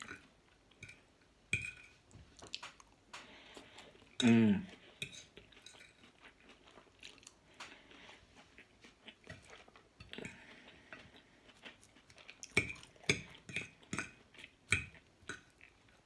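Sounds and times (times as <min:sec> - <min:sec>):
chewing and mouth noises: 0:02.2 - 0:16.0.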